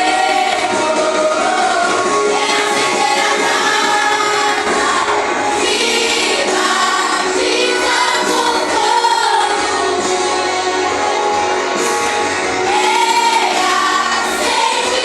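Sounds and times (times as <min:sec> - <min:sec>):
voices singing together: 0:00.0 - 0:15.0
worship band playing: 0:00.0 - 0:15.0.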